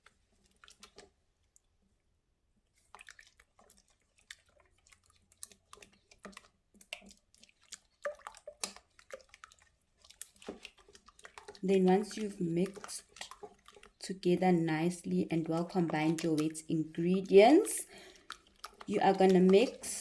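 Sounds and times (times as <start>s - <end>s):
utensil stirring in a bowl: 0.0s - 1.7s, 2.6s - 20.0s.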